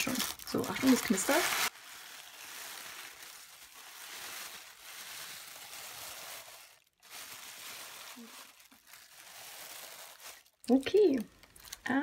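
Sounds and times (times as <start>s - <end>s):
tissue paper crinkling: 0.0s - 11.9s.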